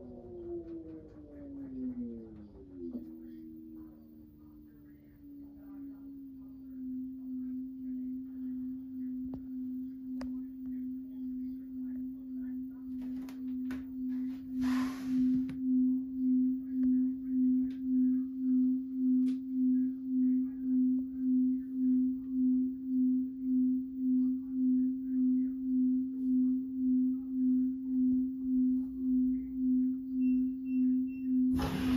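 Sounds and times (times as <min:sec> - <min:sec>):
washing machine pulsing hum: 0:00.0 - 0:31.9.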